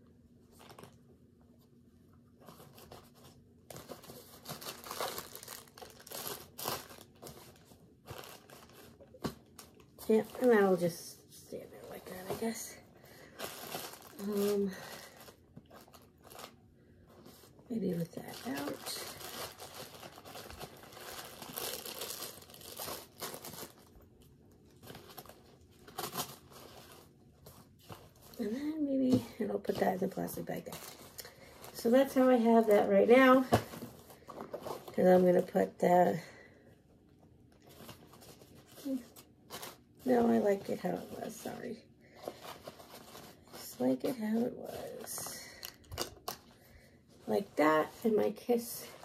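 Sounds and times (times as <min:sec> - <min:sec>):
plastic bag rustling: 0:02.4 - 0:35.6, 0:37.6 - 0:49.0.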